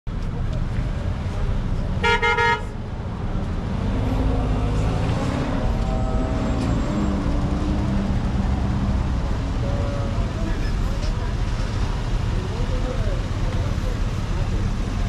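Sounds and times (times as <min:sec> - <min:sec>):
traffic rumble: 0:00.1 - 0:15.0.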